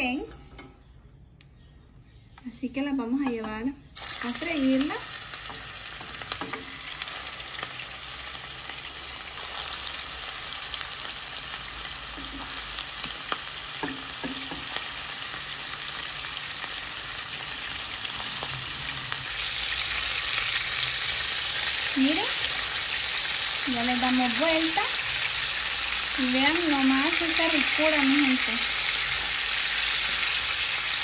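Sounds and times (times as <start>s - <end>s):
food sizzling in hot oil: 4.0s - 31.0s.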